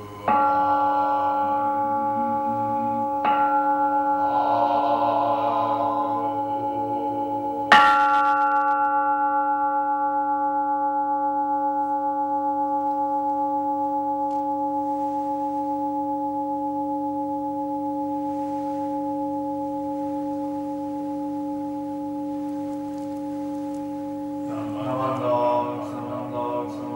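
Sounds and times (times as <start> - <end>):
bowl bell ringing: 0.0 - 26.9.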